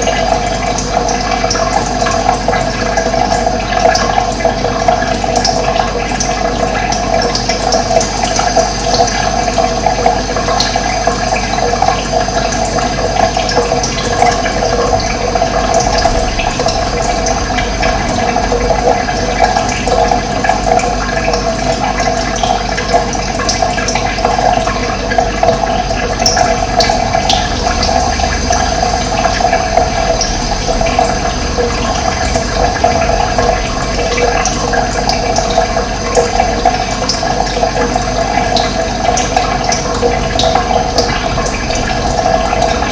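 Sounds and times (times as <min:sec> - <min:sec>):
water rushing: 0:00.0 - 0:42.9.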